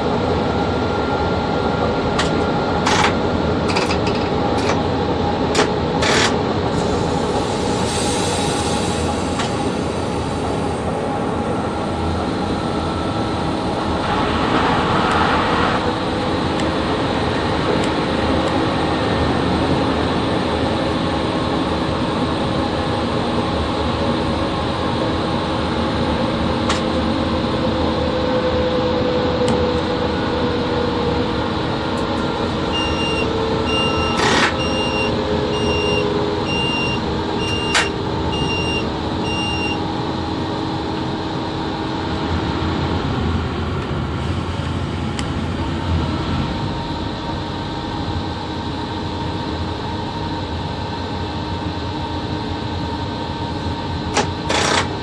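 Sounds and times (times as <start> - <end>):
locomotive rumble and hum: 0.0 - 55.0.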